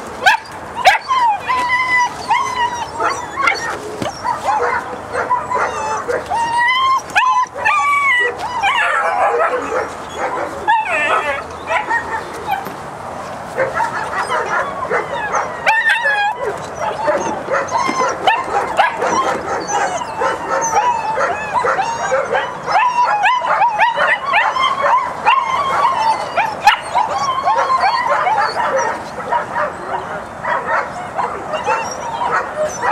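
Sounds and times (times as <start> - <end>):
puppies yipping and whining: 0.0 - 32.9.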